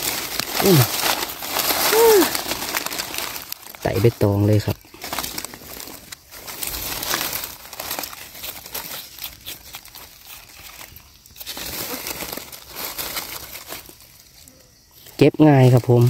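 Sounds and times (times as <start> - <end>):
dry leaves crackling and rustling: 0.0 - 16.0.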